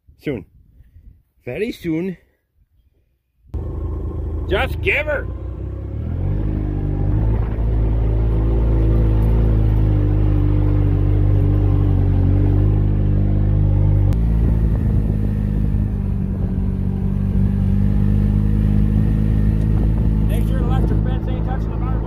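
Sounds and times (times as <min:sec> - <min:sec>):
tractor engine running: 0:03.6 - 0:22.0.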